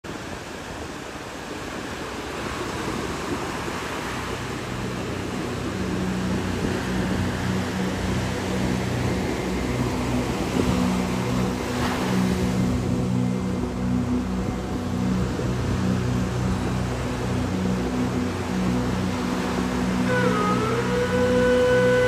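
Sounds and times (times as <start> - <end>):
ocean surf: 0.1 - 22.0
low multi-tone hum: 2.9 - 22.0.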